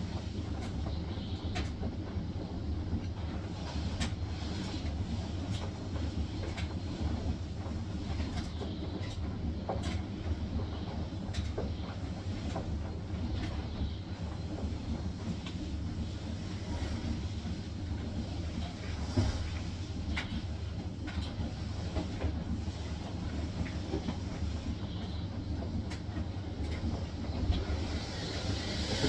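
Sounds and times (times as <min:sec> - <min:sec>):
washing machine drum spinning: 0:00.0 - 0:29.0.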